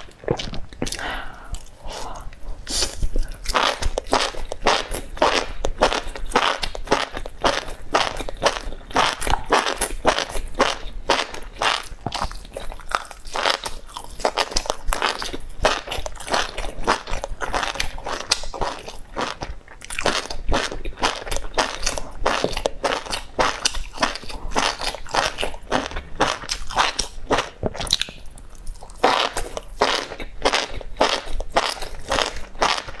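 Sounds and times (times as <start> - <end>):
wet crunchy chewing: 0.0 - 33.0.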